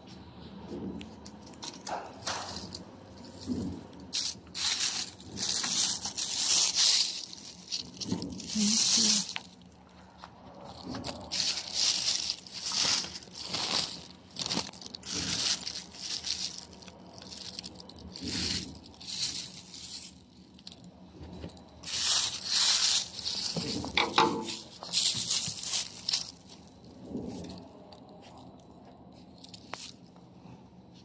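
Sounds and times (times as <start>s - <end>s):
plastic sheeting crinkling: 1.6s - 20.8s, 21.8s - 27.7s.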